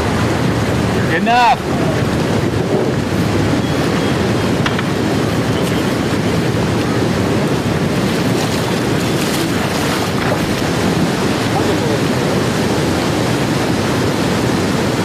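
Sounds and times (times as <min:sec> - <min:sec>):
river water rushing over rapids: 0:00.0 - 0:15.0.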